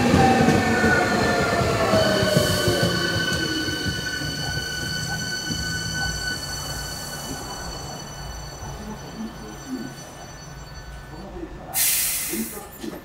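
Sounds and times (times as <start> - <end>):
low train rumble: 0.0 - 13.0
train brakes squealing: 0.0 - 13.0.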